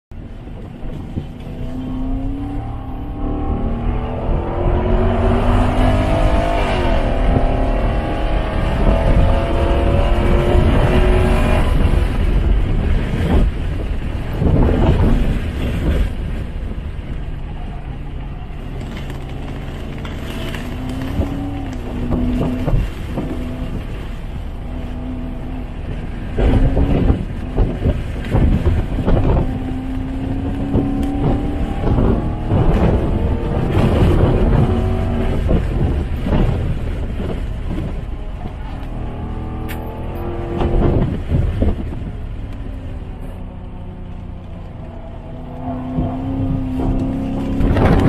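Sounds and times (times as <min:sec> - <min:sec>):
car engine at full throttle: 0:00.1 - 0:48.0.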